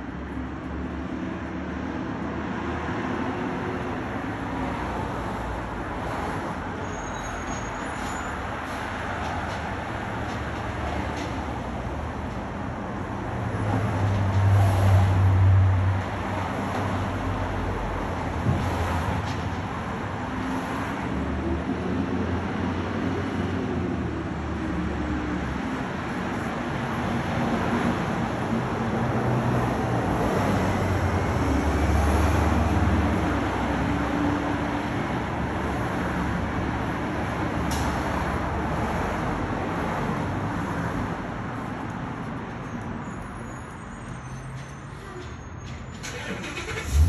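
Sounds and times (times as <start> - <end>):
street traffic noise: 0.0 - 47.0.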